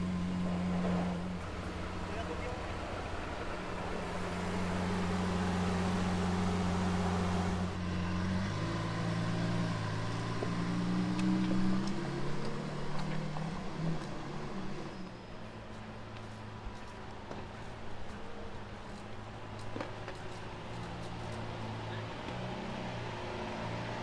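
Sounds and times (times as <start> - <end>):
car engine idling and pulling away: 0.0 - 24.0.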